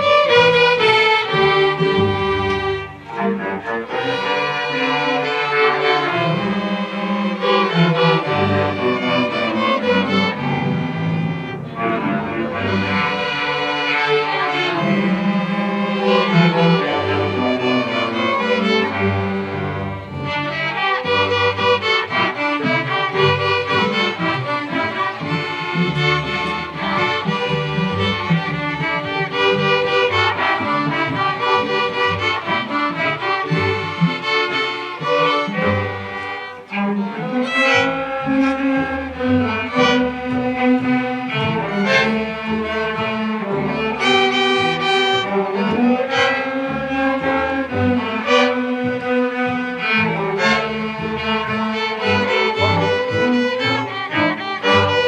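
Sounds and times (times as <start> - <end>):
string orchestra playing: 0.0 - 55.0.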